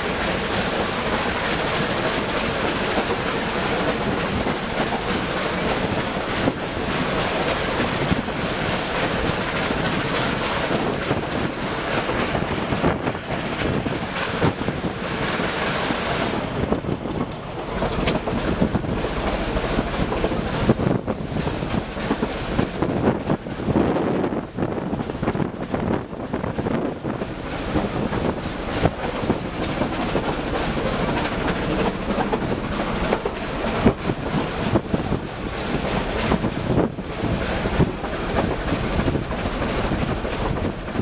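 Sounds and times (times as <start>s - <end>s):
train running rumble: 0.0s - 41.0s
wheels clicking on rail joints: 0.0s - 41.0s
wind buffeting microphone: 0.0s - 41.0s.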